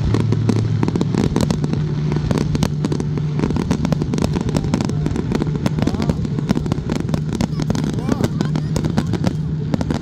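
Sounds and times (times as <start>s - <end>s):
fireworks bangs and crackles: 0.0s - 10.0s
low hum: 0.0s - 10.0s.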